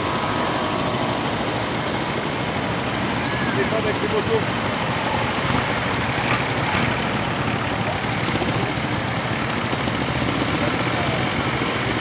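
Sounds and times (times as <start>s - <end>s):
traffic passing close by: 0.0s - 12.0s.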